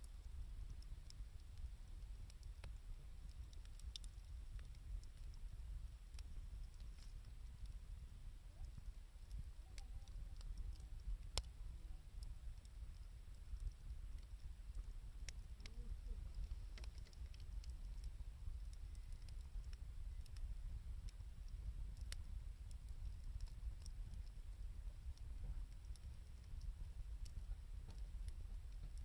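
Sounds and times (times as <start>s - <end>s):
wood fire crackling: 0.0s - 29.0s
steady low rumble: 4.2s - 29.0s.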